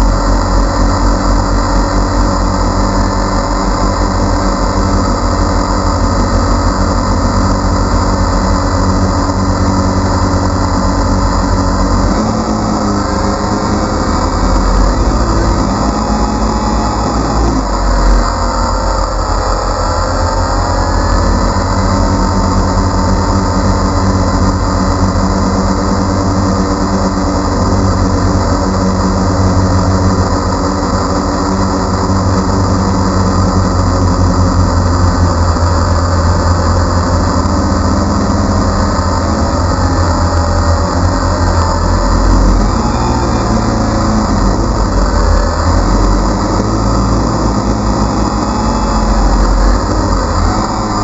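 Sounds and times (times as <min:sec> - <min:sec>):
drone propellers humming: 0:00.0 - 0:51.0.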